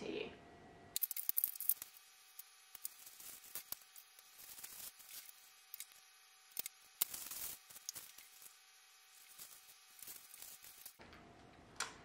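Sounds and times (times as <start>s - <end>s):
paper rustling: 1.0s - 11.0s.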